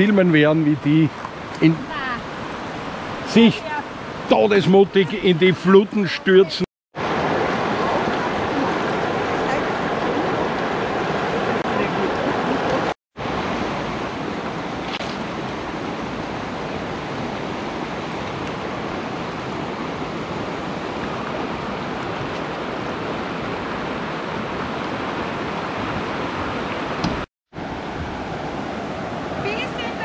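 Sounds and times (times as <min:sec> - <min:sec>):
river water over gravel rapids: 0:00.0 - 0:05.4, 0:06.0 - 0:27.0, 0:27.6 - 0:30.0.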